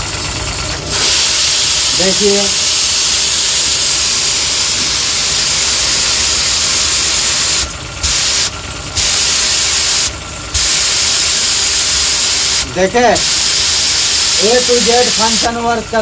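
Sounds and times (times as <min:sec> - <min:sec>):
pressure washer spray hissing: 0:00.9 - 0:15.7.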